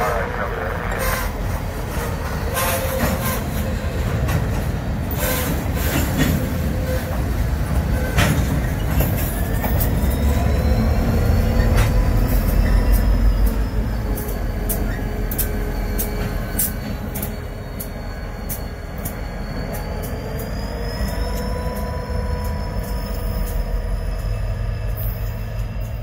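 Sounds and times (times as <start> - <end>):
freight train rumbling: 0.0 - 26.0
high wheel squeal: 0.0 - 26.0
wheels clicking on rails: 0.9 - 26.0.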